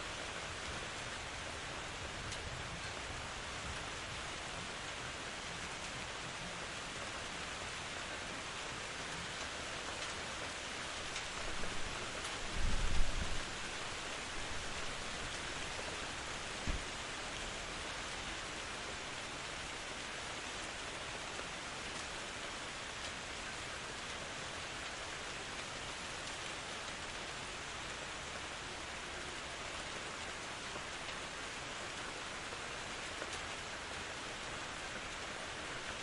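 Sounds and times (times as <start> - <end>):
rain falling in forest: 0.0 - 36.0.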